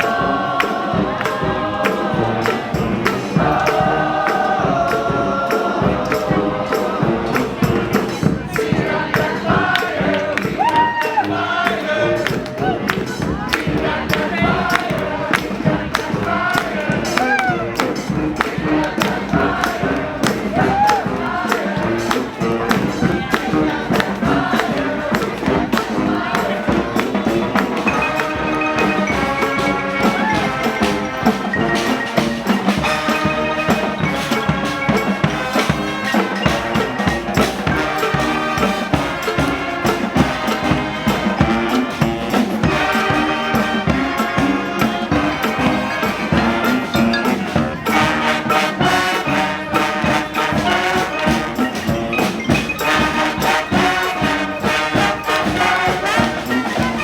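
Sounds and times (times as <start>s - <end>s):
brass band horns: 0.0s - 57.0s
steady drum beat: 0.0s - 57.0s.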